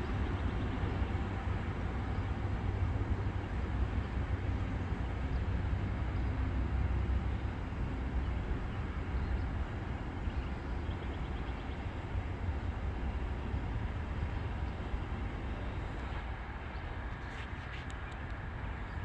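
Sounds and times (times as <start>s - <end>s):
train rumbling away: 0.0s - 19.0s.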